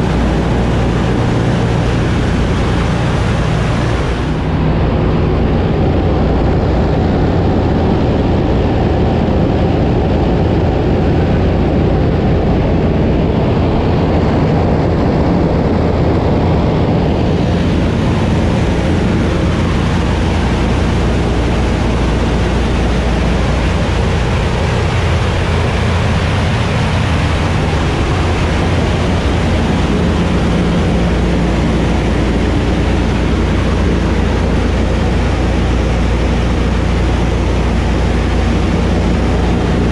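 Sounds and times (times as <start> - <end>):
aircraft engines droning: 0.0 - 39.9
rushing air: 0.0 - 39.9.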